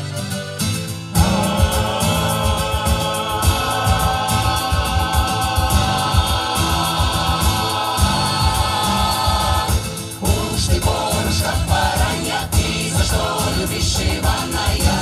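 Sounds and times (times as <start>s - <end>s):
folk song backing track: 0.0s - 15.0s
steady bass beat: 0.9s - 15.0s
women singing together: 1.2s - 15.0s.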